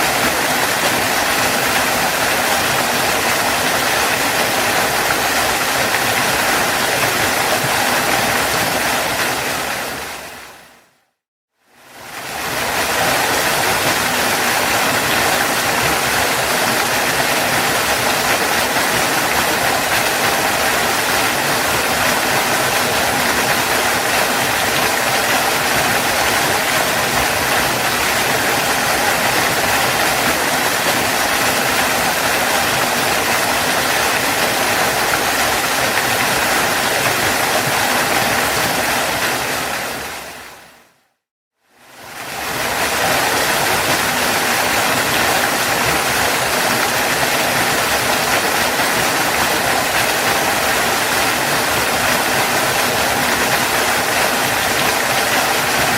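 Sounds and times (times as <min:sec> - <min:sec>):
waterfall rushing: 0:00.0 - 0:10.9, 0:11.9 - 0:41.0, 0:41.9 - 0:55.9.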